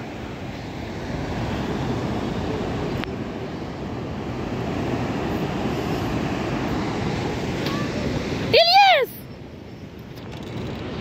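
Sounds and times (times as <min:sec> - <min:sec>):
sea surf breaking: 0:00.0 - 0:11.0.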